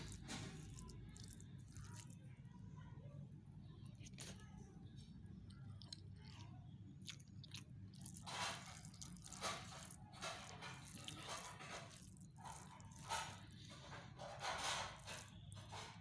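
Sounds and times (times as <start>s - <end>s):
wet chewing and squishing: 0.0s - 2.4s, 3.9s - 4.5s, 5.1s - 16.0s.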